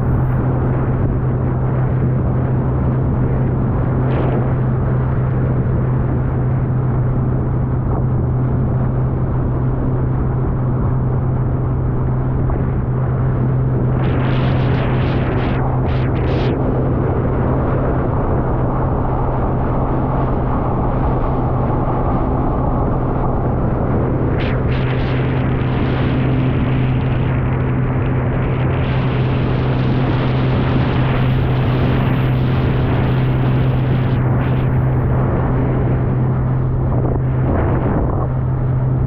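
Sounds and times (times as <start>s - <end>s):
motorboat engine droning: 0.0s - 39.0s.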